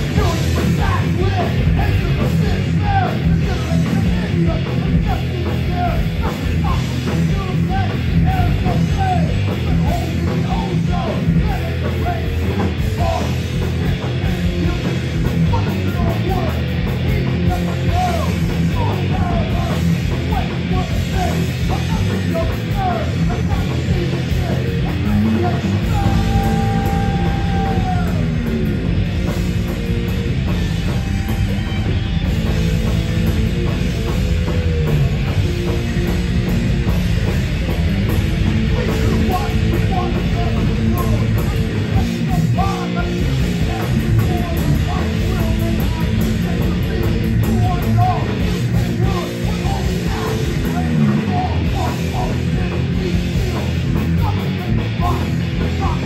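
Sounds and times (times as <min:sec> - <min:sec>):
bass guitar: 0:00.0 - 0:56.0
distorted electric guitar: 0:00.0 - 0:56.0
fast drums: 0:00.0 - 0:56.0.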